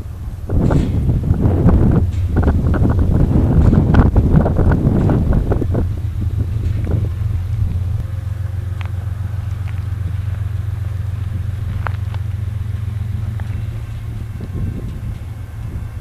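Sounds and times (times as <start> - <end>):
diesel locomotives rumbling: 0.0 - 16.0.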